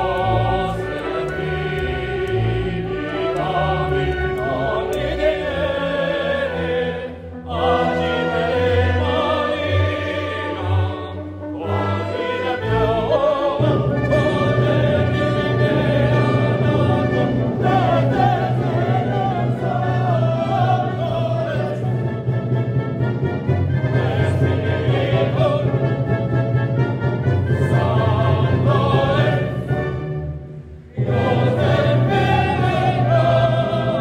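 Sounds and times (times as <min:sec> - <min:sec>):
choir singing: 0:00.0 - 0:34.0
orchestral accompaniment: 0:00.0 - 0:34.0.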